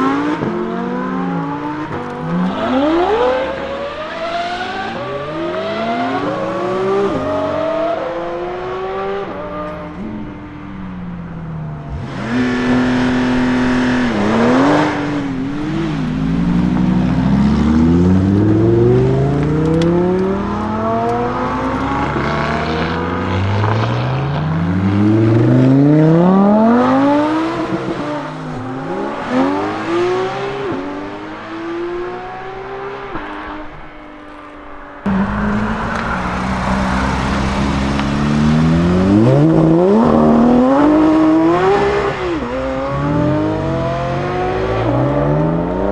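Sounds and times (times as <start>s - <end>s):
sports car accelerating hard: 0.0s - 45.9s.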